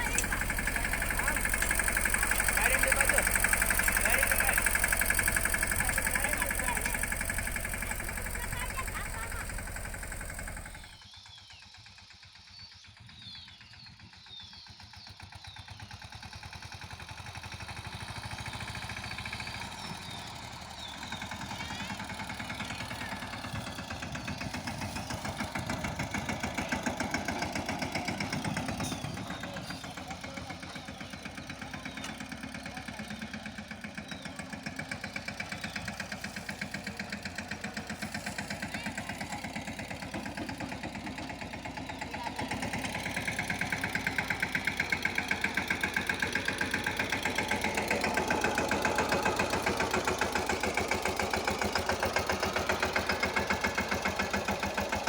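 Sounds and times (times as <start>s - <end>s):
tractor diesel engine chugging: 0.0s - 11.0s, 14.5s - 55.0s.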